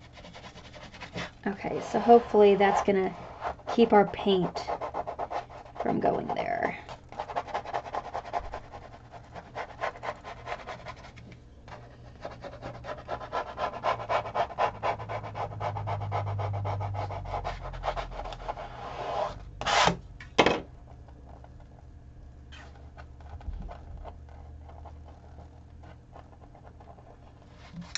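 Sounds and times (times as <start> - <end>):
vinyl rubbing on canvas: 0.0 - 6.4, 7.1 - 20.0, 22.5 - 27.9.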